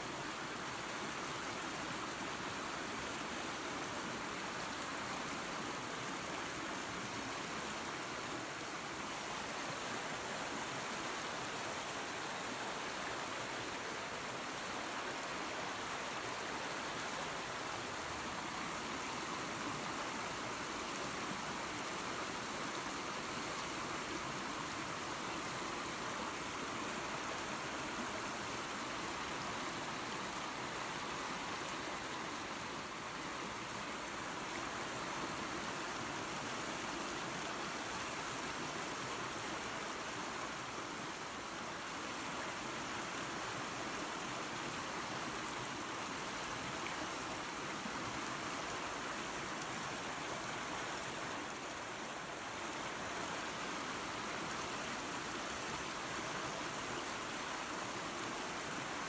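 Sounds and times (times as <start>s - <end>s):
creek and waterfall rushing: 0.0s - 59.0s.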